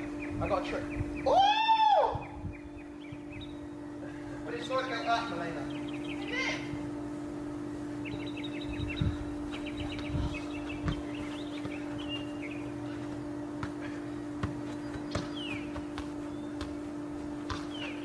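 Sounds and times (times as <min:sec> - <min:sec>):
birds chirping in trills: 0:00.0 - 0:18.0
steady low hum: 0:00.0 - 0:18.0.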